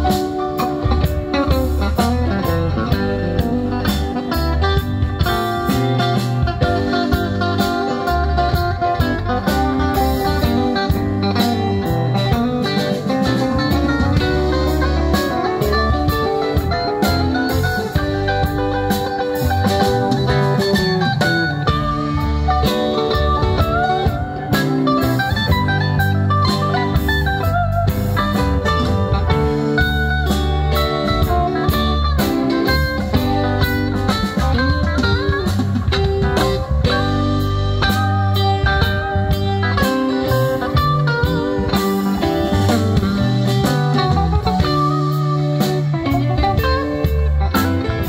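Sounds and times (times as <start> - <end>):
bass: 0.0 - 48.0
bent guitar notes: 0.0 - 48.0
drums: 0.0 - 48.0
keyboard: 0.0 - 48.0
rock band playing: 0.0 - 48.0.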